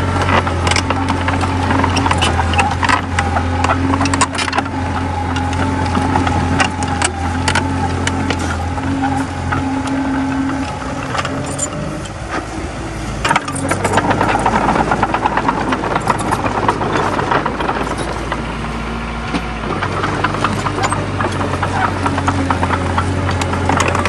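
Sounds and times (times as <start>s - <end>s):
metallic clatter and rattling: 0.0s - 12.5s, 13.2s - 24.0s
bulldozer diesel engine running: 0.0s - 24.0s.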